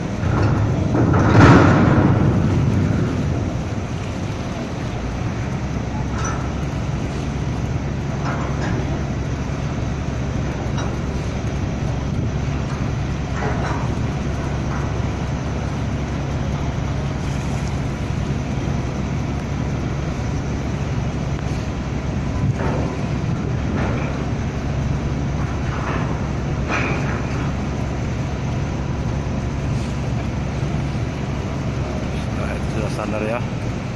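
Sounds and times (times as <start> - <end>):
ship diesel engine droning: 0.0 - 33.9
water noise: 0.0 - 33.9.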